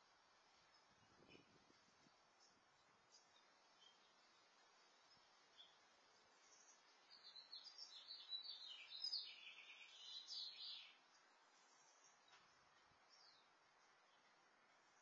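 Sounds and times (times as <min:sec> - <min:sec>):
faint steady hiss: 0:00.0 - 0:15.0
songbird chirping: 0:00.0 - 0:15.0.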